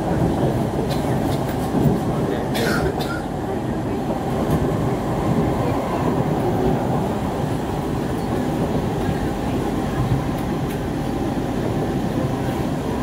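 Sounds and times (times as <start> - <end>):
metro train interior rumble: 0.0 - 13.0.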